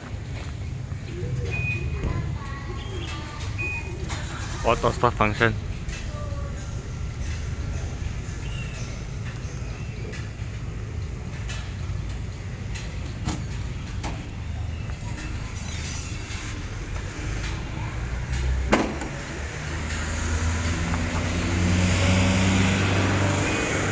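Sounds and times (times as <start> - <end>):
car engine running: 4.3 - 23.9.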